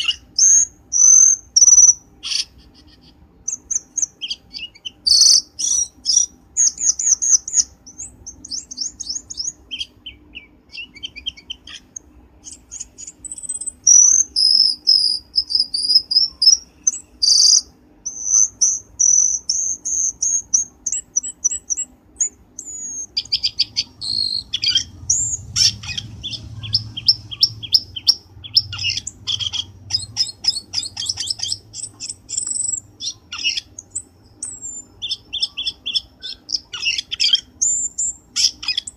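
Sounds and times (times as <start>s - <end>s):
birdsong chirps and trills: 0.0s - 38.9s
faint low hum: 0.0s - 38.9s.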